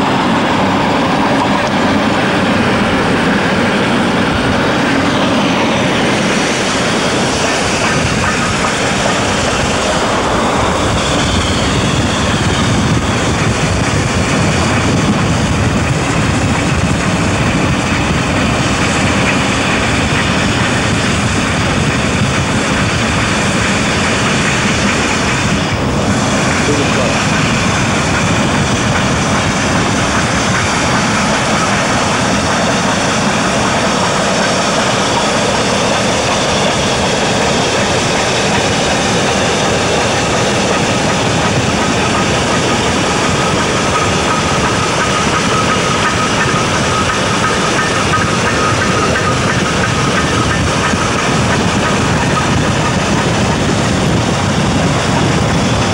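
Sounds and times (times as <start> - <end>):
car road and wind noise: 0.0 - 55.9
steam locomotives working: 0.0 - 55.9.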